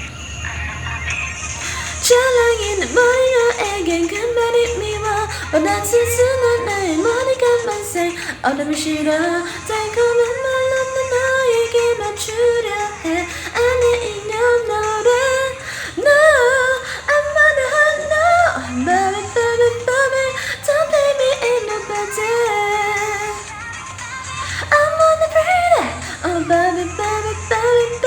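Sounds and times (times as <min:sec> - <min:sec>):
woman singing high: 0:01.8 - 0:23.6, 0:24.4 - 0:28.0.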